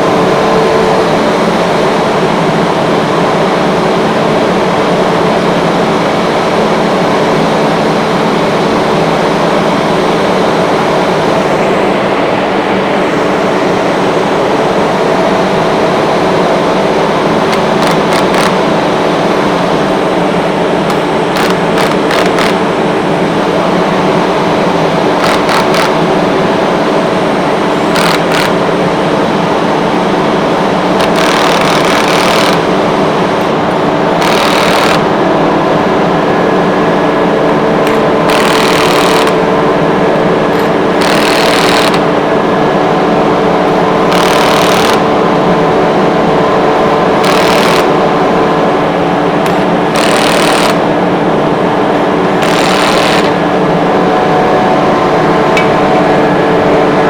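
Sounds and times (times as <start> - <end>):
air compressor humming: 0.0 - 57.0.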